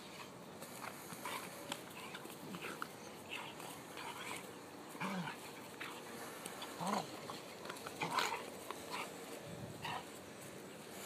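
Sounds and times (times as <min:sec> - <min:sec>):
dogs play-fighting vocalisations: 0:01.1 - 0:10.1.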